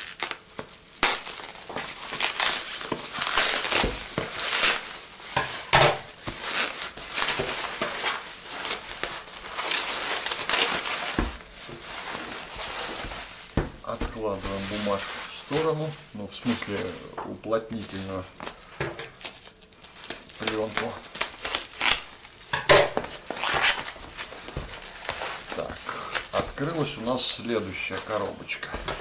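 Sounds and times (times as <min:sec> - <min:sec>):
bubble wrap crinkling and rustling: 0:00.0 - 0:29.0.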